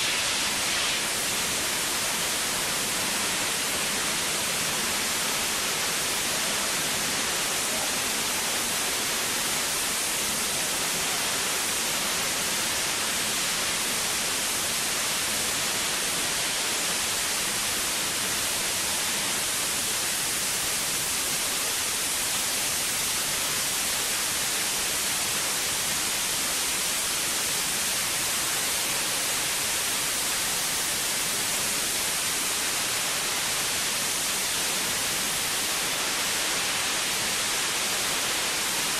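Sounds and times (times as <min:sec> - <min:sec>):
fire and pressurized spray hissing: 0:00.0 - 0:38.9.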